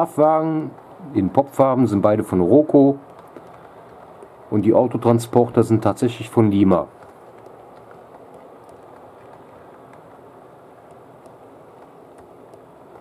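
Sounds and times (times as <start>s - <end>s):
model train wheels rolling on rails: 0.0s - 13.0s
wheels clicking over rail joints: 0.0s - 13.0s.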